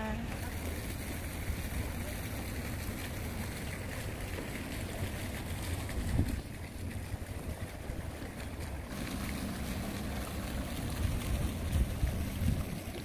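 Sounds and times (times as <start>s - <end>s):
wind buffeting microphone: 0.6s - 13.0s.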